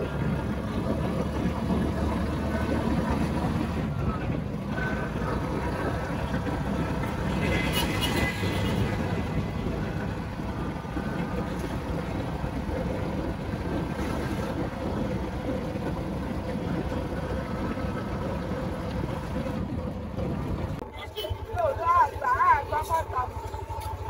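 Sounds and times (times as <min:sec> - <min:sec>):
rickshaw engine running: 0:00.0 - 0:24.0
road noise: 0:00.0 - 0:24.0.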